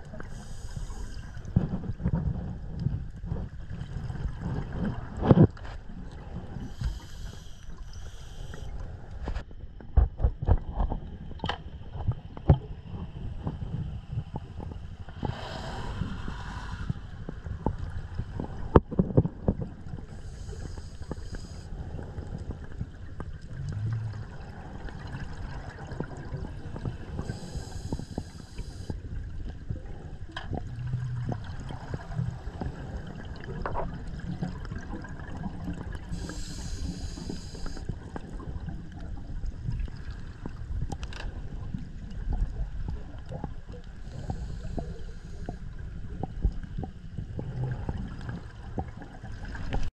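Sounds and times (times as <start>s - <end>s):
low underwater rumble: 0.0s - 49.9s
underwater exhaled bubbles: 0.0s - 49.9s.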